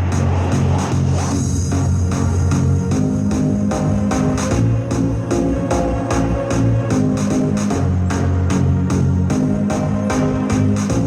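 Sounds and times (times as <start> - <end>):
electronic music with bass: 0.0 - 11.0.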